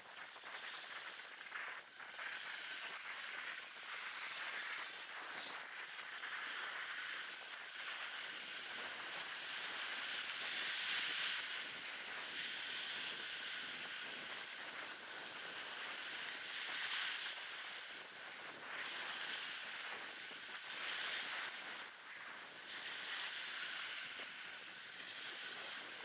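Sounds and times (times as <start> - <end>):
gusty wind on microphone: 0.0 - 26.0
small waves breaking on beach: 0.1 - 26.0.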